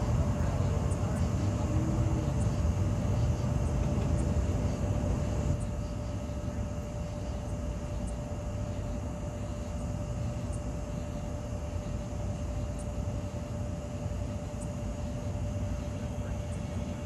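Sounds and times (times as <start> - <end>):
faint hum: 0.0 - 17.0
steady low rumble: 0.0 - 17.0.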